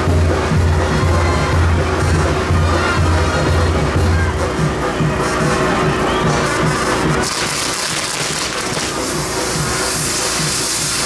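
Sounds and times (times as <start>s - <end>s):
music with heavy bass beat: 0.0s - 11.0s.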